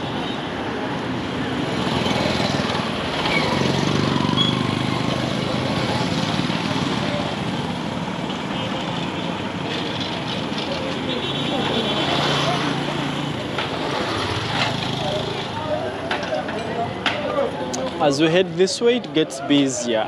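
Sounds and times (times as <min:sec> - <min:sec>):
street noise: 0:00.0 - 0:20.0.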